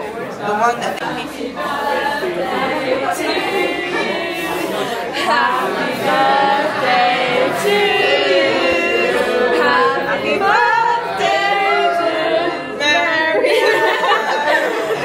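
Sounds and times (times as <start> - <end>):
people singing unaccompanied: 0.0 - 15.0.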